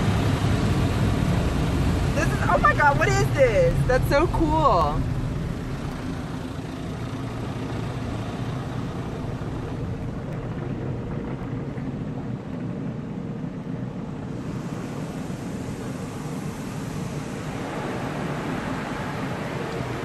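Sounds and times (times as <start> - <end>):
car wash machinery: 0.0 - 20.0.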